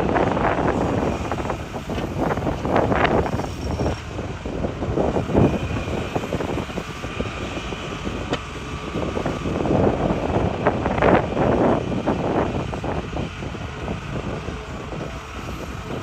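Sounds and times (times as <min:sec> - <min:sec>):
excavator diesel engine under load: 0:00.0 - 0:16.0.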